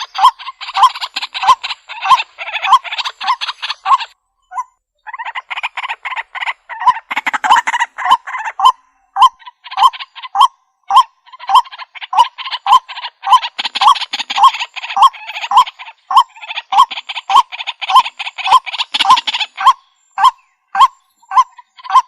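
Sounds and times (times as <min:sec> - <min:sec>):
waterhen harsh croaking calls: 0:00.0 - 0:22.0.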